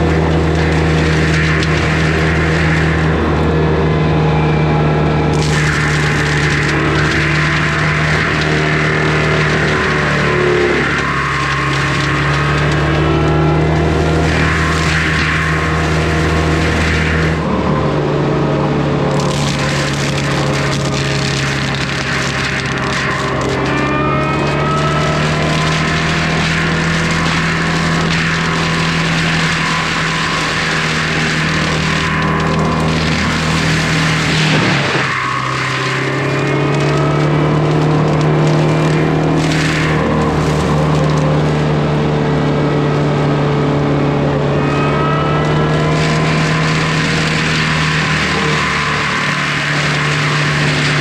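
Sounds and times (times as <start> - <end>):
mulcher drum grinding wood: 0.0 - 51.0
skid steer engine running under load: 0.0 - 51.0.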